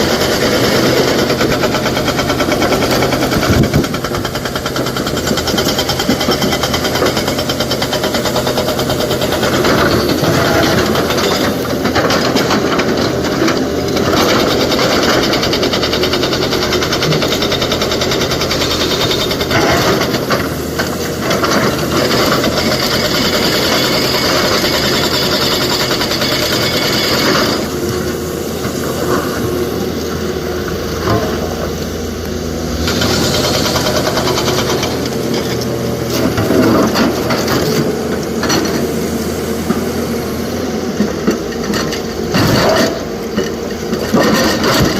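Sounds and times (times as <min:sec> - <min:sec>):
diesel excavator running: 0:00.0 - 0:44.9.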